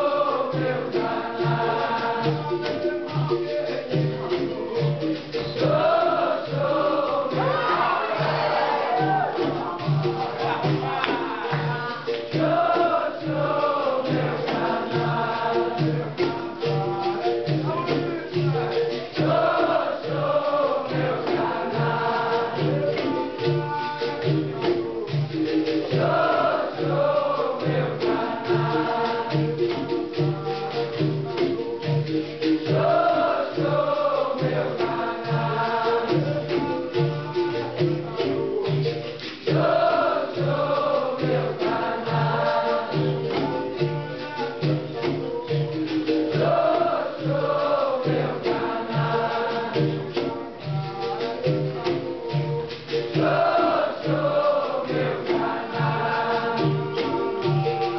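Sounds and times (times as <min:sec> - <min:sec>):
group singing chant-like phrases: 0:00.0 - 0:57.9
low percussion beat: 0:00.0 - 0:57.9
tambourine and rattling percussion: 0:00.0 - 0:57.9.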